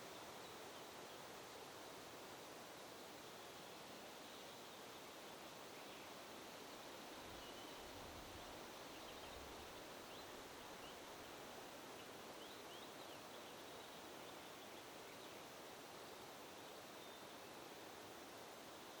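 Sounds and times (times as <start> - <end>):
faint wind rustling: 0.0 - 19.0.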